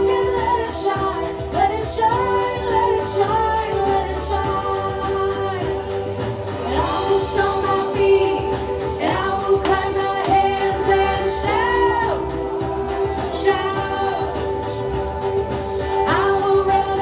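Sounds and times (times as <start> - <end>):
instrumental backing: 0.0 - 17.0
woman singing: 0.0 - 17.0.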